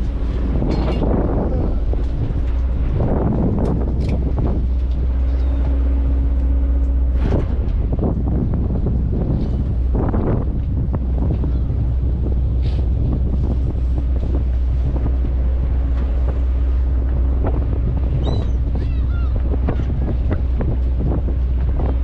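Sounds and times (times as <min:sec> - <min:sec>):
boat engine drone: 0:00.0 - 0:22.0
wind buffeting microphone: 0:00.0 - 0:22.0.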